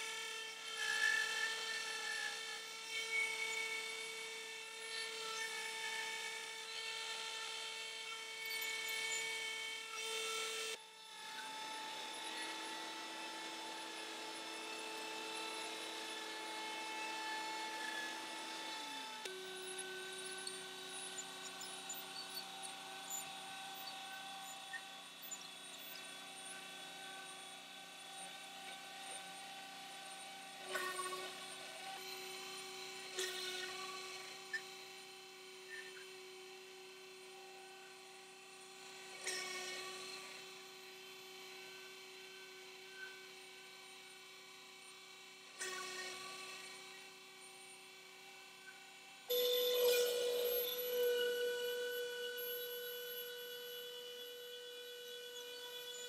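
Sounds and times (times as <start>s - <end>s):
router spindle motor whining: 0.0s - 56.0s.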